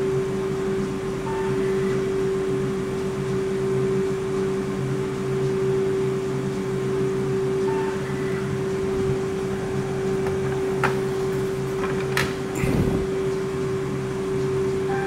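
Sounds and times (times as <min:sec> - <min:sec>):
ice cream machine humming: 0:00.0 - 0:15.0.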